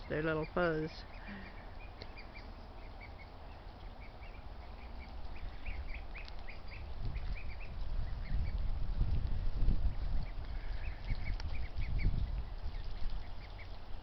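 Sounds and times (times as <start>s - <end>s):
ducklings high calls: 0.0s - 8.6s, 9.8s - 13.8s.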